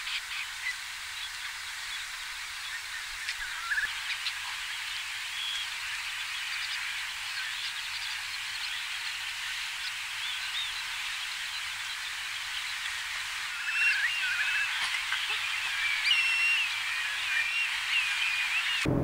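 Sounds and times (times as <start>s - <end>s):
steady hiss: 0.0s - 19.0s
curlews calling: 2.6s - 9.2s, 9.8s - 18.9s.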